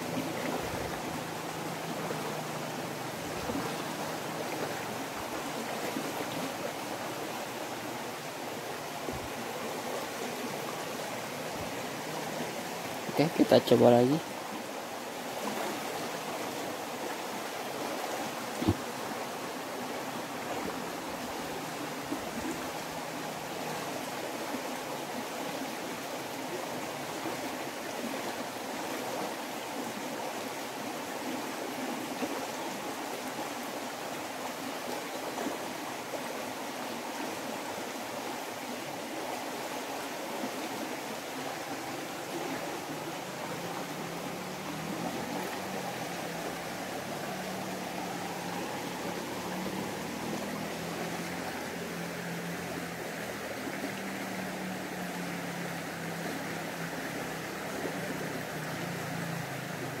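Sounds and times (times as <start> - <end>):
stream water flowing: 0.0 - 60.0.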